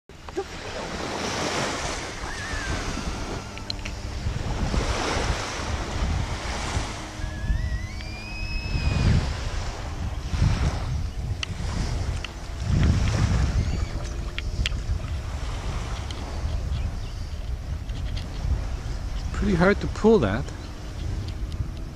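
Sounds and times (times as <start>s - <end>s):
wind buffeting microphone: 0.1s - 21.9s.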